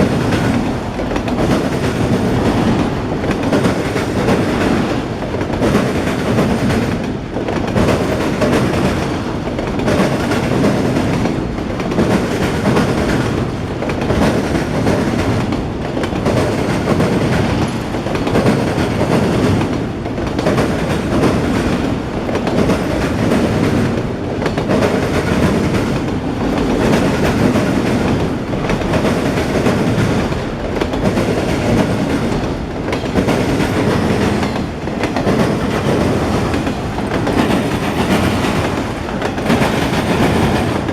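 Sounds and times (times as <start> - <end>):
freight train rolling past: 0.0 - 40.9
wheels clacking over rail joints: 0.0 - 40.9.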